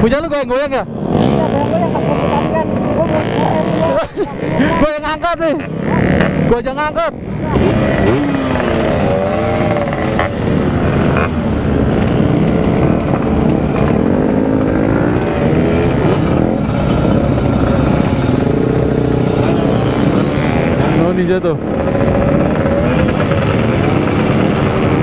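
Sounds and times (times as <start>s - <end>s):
two-stroke motorcycle revving: 0.0s - 25.0s.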